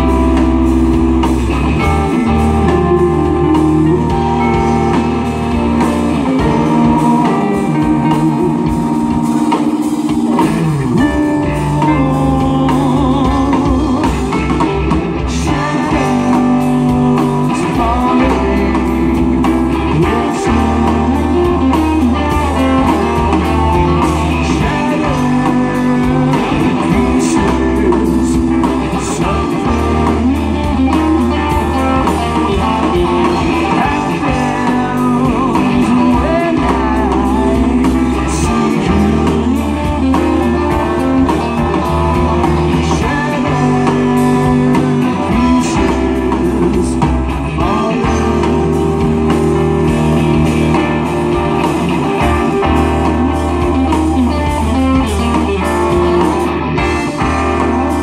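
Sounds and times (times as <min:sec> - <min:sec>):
bass guitar low pulse: 0:00.0 - 0:58.0
live blues-rock band: 0:00.0 - 0:58.0.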